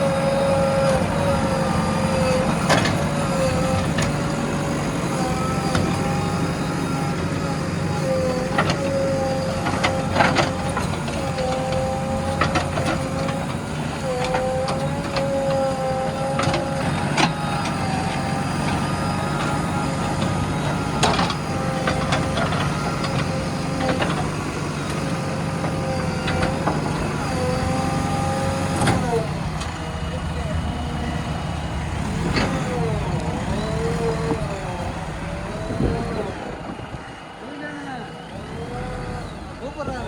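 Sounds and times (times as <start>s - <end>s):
diesel engine whine: 0.0s - 40.0s.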